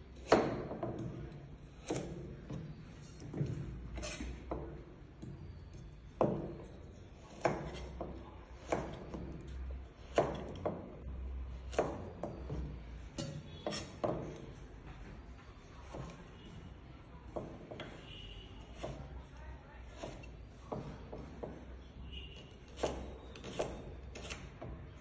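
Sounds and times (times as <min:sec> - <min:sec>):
knife chopping on plastic board: 0:00.2 - 0:05.4, 0:06.2 - 0:14.5, 0:15.8 - 0:16.2, 0:17.3 - 0:19.2, 0:19.8 - 0:21.6, 0:22.4 - 0:24.8.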